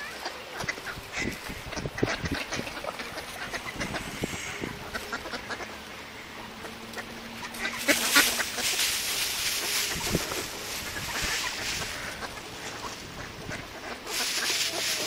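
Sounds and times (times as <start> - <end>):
ducks calling: 0.0 - 15.0
rush of noise: 0.8 - 15.0.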